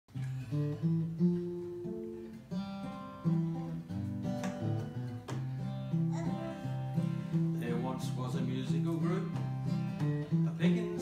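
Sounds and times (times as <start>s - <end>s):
acoustic guitars playing chords: 0.1s - 11.0s.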